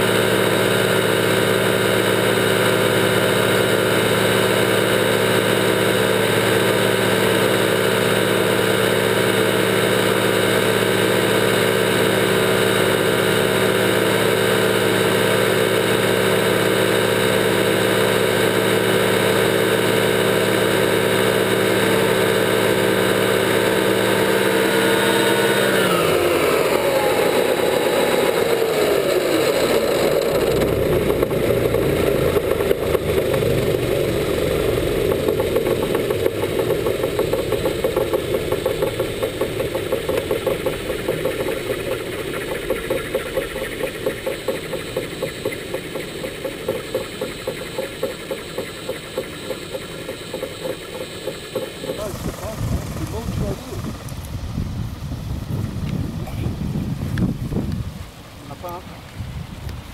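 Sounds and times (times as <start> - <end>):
model helicopter rotor whirring: 0.0 - 54.8.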